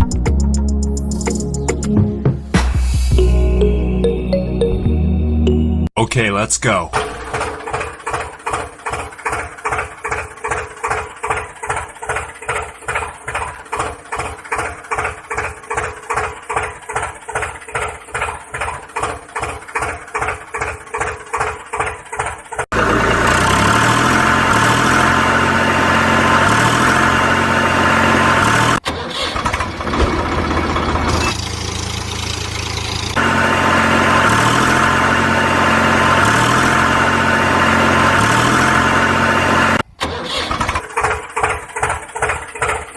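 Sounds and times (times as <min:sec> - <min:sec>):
tractor engine chugging: 0:07.0 - 0:42.9.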